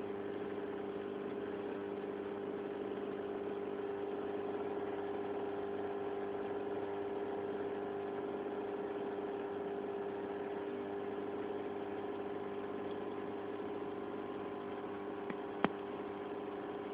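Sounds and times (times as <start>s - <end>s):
aquarium pump humming: 0.0s - 16.9s.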